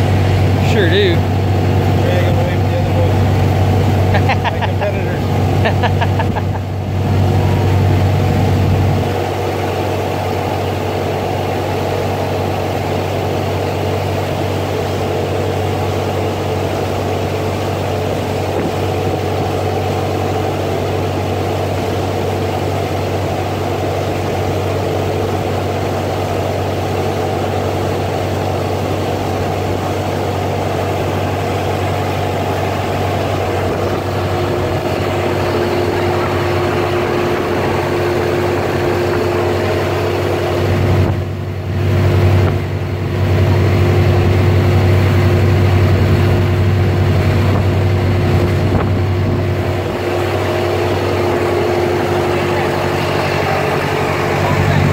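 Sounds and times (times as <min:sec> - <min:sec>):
boat engine drone: 0:00.0 - 0:54.9
rushing wake wash: 0:00.0 - 0:54.9.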